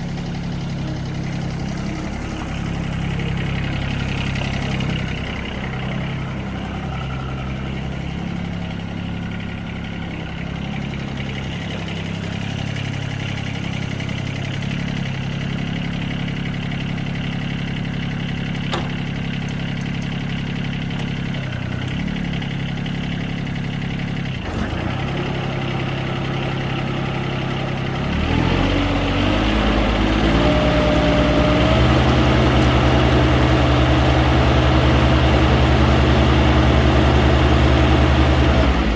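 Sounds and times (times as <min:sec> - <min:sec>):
tractor diesel engine idling: 0:00.0 - 0:38.9
tractor engine revving up: 0:00.0 - 0:38.9.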